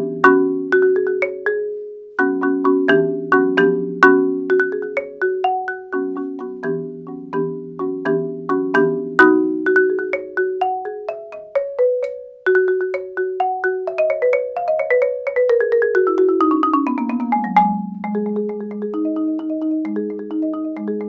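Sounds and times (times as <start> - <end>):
marimba notes and chords: 0.0 - 21.0.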